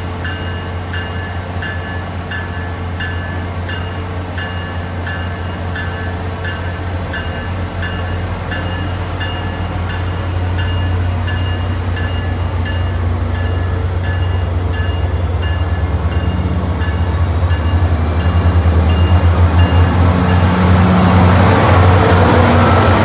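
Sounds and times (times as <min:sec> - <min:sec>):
diesel train drone: 0:00.0 - 0:23.0.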